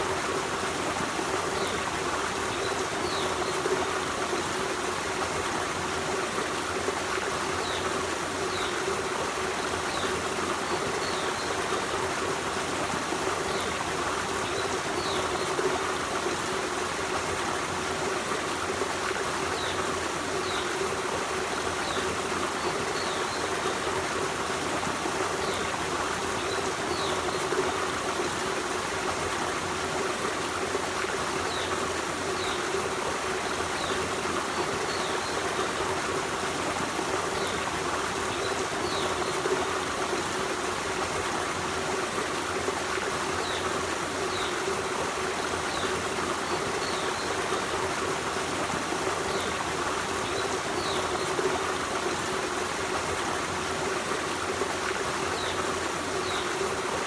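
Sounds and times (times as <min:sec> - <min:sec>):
forest stream rushing: 0:00.0 - 0:57.0.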